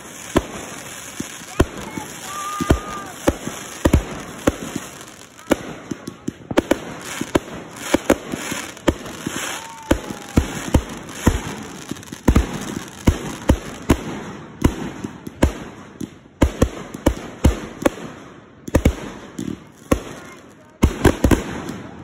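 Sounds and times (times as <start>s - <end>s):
continuous fireworks crackle: 0.0s - 22.0s
fireworks bangs: 0.0s - 22.0s.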